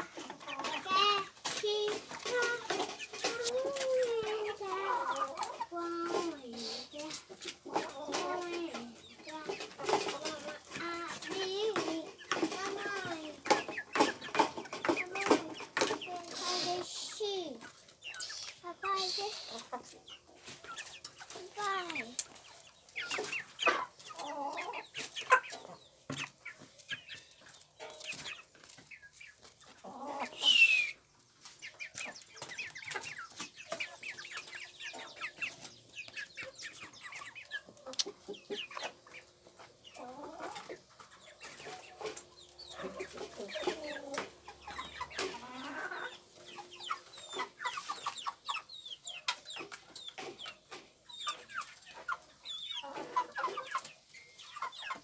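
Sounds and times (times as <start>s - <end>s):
chickens calling: 0.0s - 55.0s.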